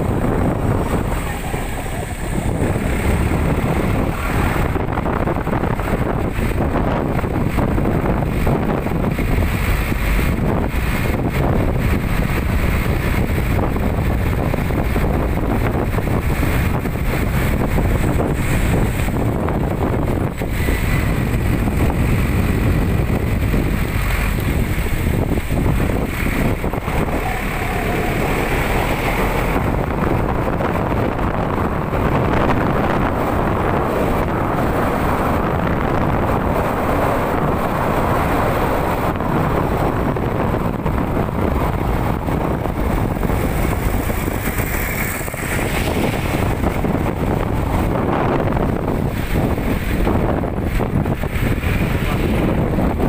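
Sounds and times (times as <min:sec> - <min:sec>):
truck engine and tyres rumble: 0:00.0 - 0:53.0
wind buffeting microphone: 0:00.0 - 0:53.0.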